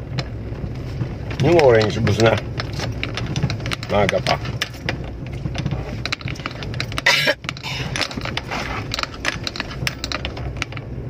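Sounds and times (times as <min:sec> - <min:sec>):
car engine and road rumble: 0:00.0 - 0:11.0
small clicks and rattles: 0:00.0 - 0:11.0.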